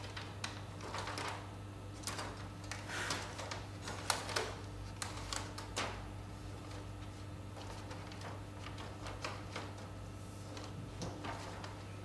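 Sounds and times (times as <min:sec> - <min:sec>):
printer humming: 0:00.0 - 0:12.0.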